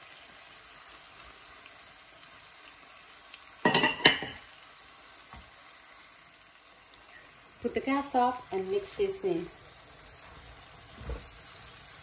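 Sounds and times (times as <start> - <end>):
prawns sizzling in a pan: 0.0 - 12.0.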